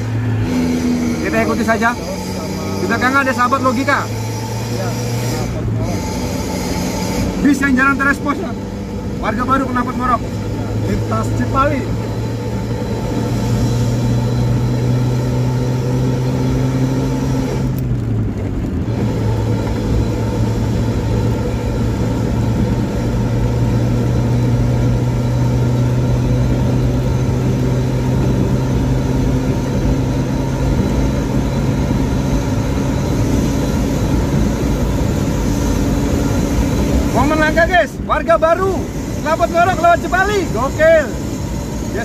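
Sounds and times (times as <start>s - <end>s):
bus exhaust low drone: 0.0s - 42.0s.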